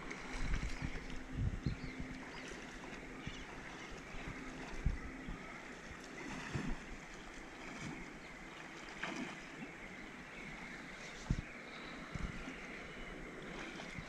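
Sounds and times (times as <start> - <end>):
river water lapping and splashing: 0.0 - 14.0.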